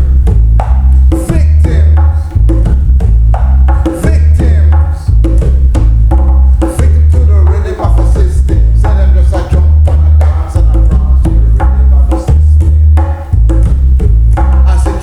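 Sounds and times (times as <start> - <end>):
reggae song: 0.0 - 15.0
wood-block-like percussion hits: 0.0 - 15.0.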